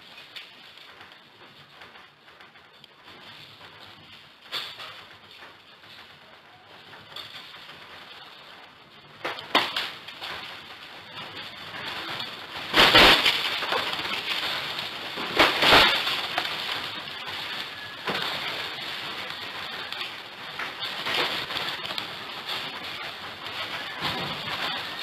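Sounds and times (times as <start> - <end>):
rumbling: 0.0 - 25.0.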